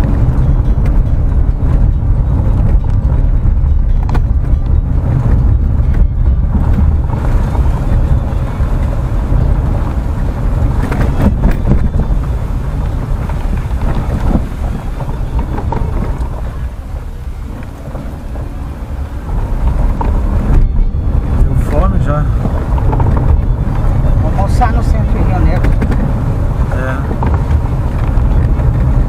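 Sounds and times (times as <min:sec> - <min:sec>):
car tyres and engine rumbling: 0:00.0 - 0:29.0.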